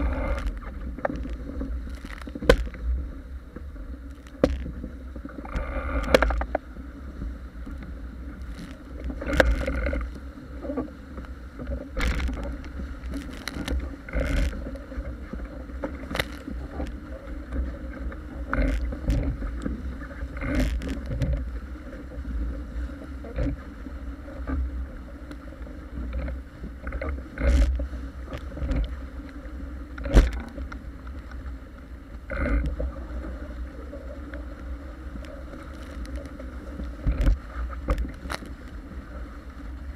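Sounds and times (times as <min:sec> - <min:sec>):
low rumble: 0:00.0 - 0:39.9
water rushing along hull: 0:00.0 - 0:39.9.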